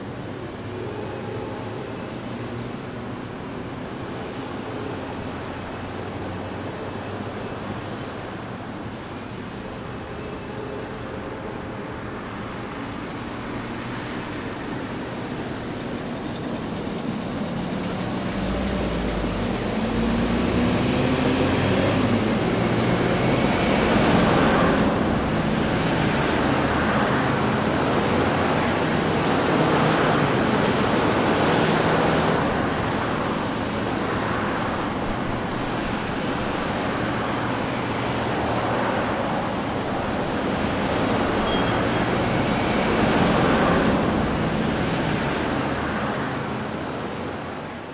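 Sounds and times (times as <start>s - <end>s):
road traffic passing: 0.0s - 47.9s.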